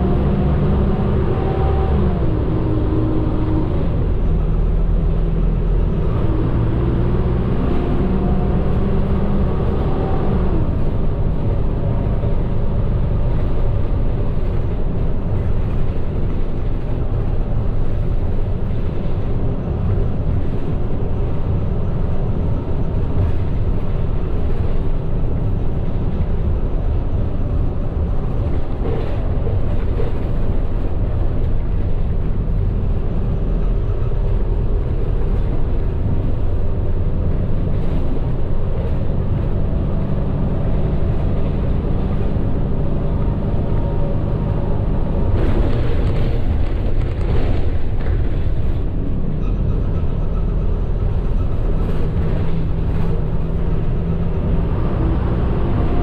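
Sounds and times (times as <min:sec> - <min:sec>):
bus engine rumble: 0:00.0 - 0:56.0
road noise: 0:00.0 - 0:56.0.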